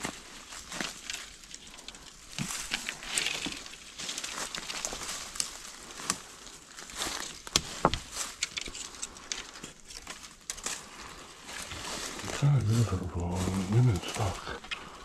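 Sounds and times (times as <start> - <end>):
footsteps crunching through dry leaves: 0.0 - 15.0
twigs crackling: 0.0 - 15.0
twigs snapping: 0.0 - 15.0.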